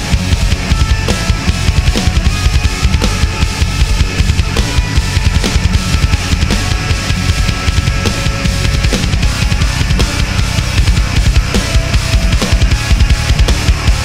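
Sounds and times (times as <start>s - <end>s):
drum kit playing fast groove: 0.0s - 14.0s
guitar lines: 0.0s - 14.0s.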